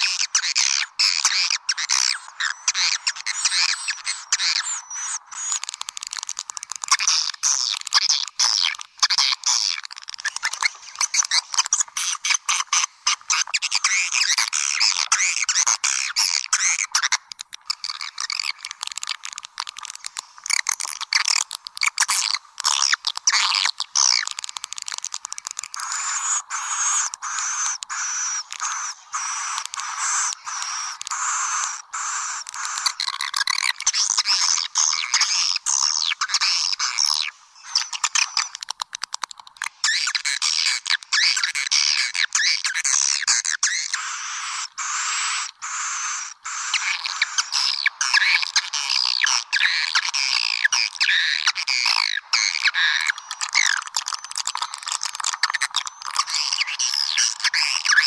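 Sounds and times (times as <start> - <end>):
rapid dry clicks: 0.0 - 58.0
swiftlets twittering and chirping: 0.0 - 58.0.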